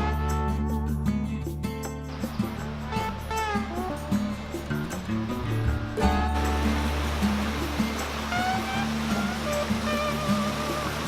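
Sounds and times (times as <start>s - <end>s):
background music: 0.0s - 11.0s
hiss: 2.1s - 11.0s.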